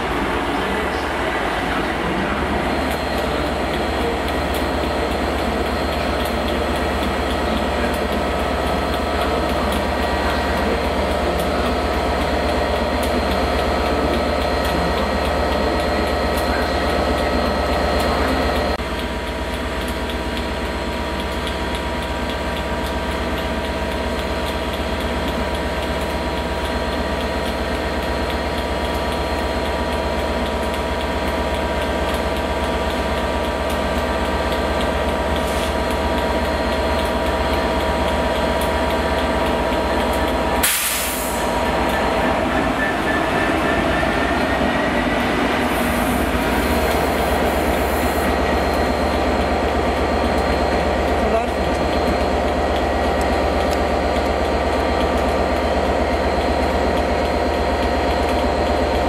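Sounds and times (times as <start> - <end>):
diesel train engine drone: 0.0 - 59.0.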